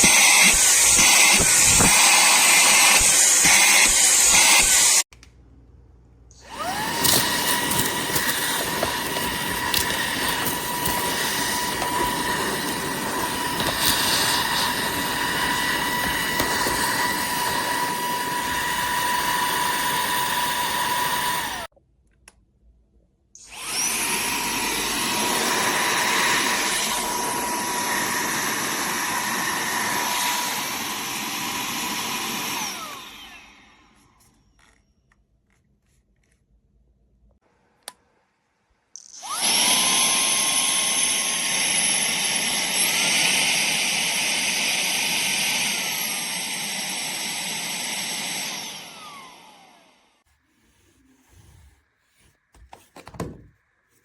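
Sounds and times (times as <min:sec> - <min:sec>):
handheld vacuum cleaner whine: 0:00.0 - 0:05.1, 0:06.4 - 0:21.7, 0:23.4 - 0:34.8, 0:39.0 - 0:53.5.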